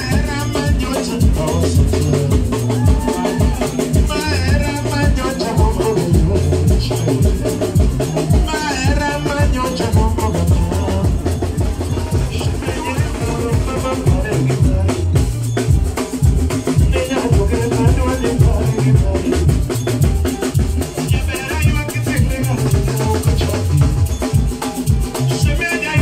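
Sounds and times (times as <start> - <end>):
bass line: 0.0 - 26.0
drum kit beat: 0.0 - 26.0
live band music: 0.0 - 26.0.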